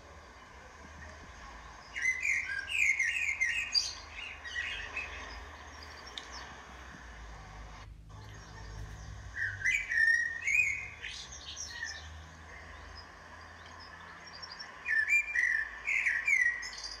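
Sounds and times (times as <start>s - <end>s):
faint low hum: 0.0s - 17.0s
songbird chirping: 0.0s - 17.0s.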